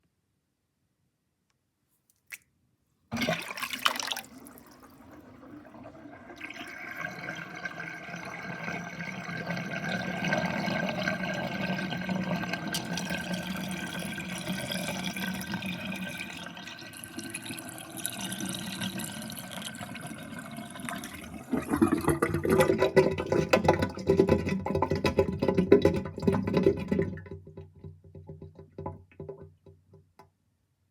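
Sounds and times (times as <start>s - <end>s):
water gurgling down sink drain: 3.1s - 29.6s.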